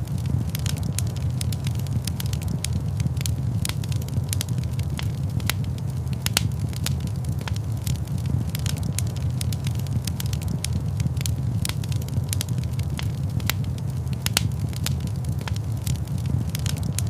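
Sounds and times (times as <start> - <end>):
fire pops and snaps: 0.0 - 17.0
low rumble of flames: 0.0 - 17.0
wood fire crackling: 0.0 - 17.0.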